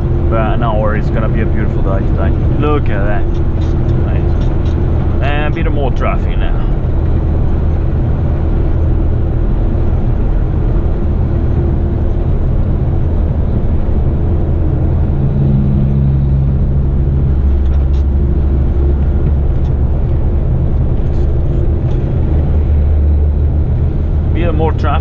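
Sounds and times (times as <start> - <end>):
truck engine and road rumble: 0.0 - 25.0.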